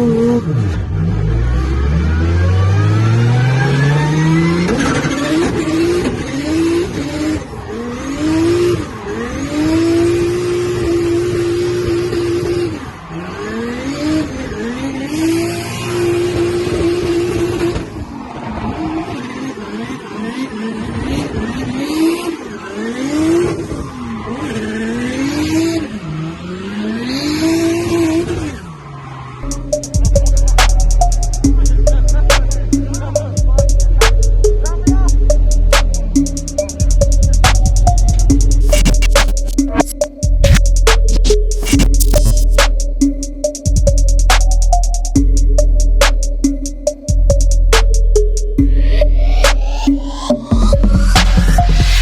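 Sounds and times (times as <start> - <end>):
car engine at high revs: 0.0 - 52.0.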